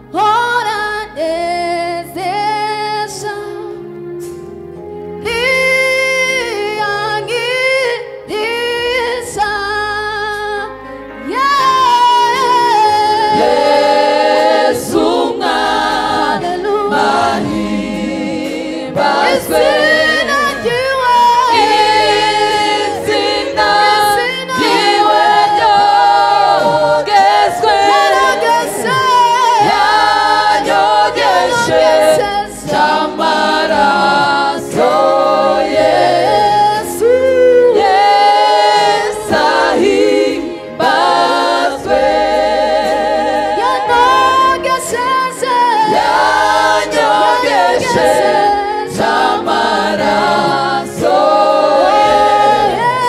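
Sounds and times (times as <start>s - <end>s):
choir singing in harmony: 0.0s - 53.0s.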